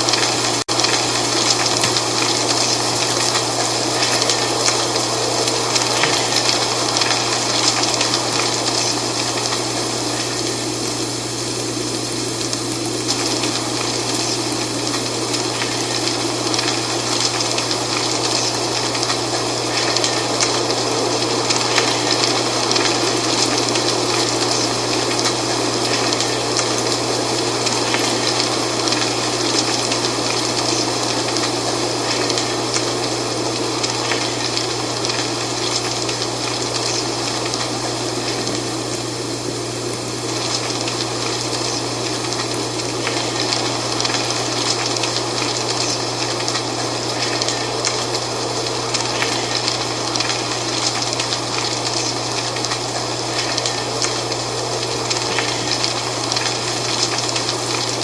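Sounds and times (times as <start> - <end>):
wind rustling dry leaves: 0.0 - 58.0.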